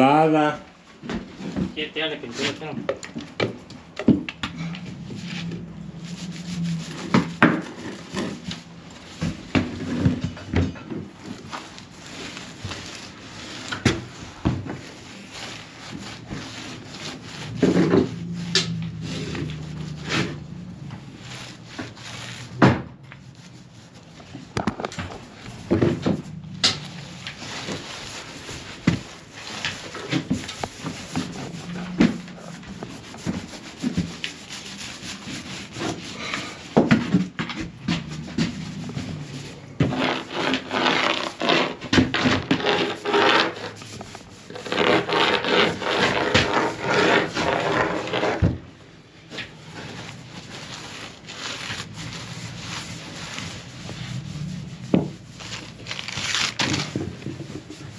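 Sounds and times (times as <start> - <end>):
paint rubbing and scraping: 0.0 - 57.9.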